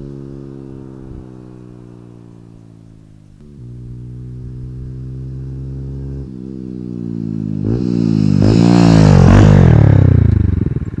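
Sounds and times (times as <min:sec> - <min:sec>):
motorcycle accelerating past: 0:00.0 - 0:11.0.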